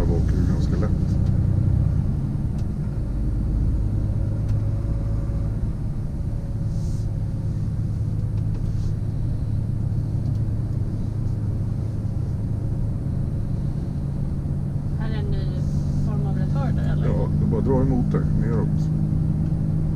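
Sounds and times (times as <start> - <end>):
truck engine and road rumble: 0.0 - 19.9.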